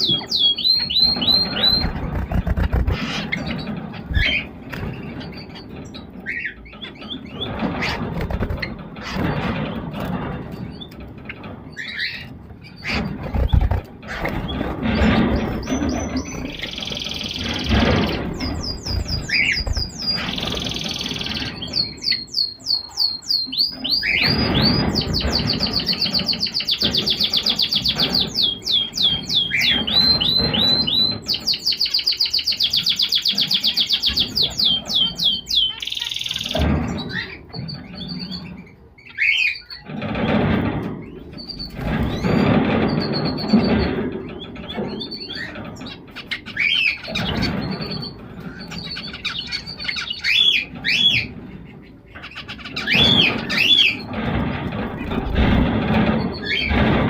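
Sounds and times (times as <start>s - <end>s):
cage birds singing and chirping: 0.0s - 57.0s.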